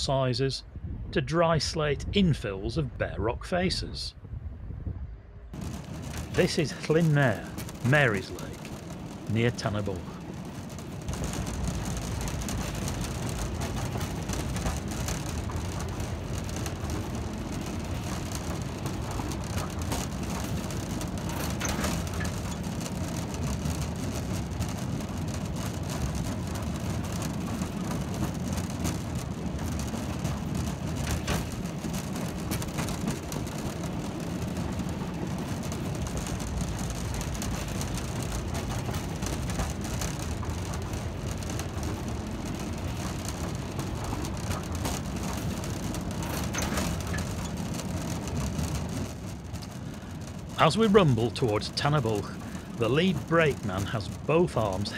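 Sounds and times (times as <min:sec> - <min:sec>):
wagon wheels rumbling on rails: 0:05.4 - 0:54.9.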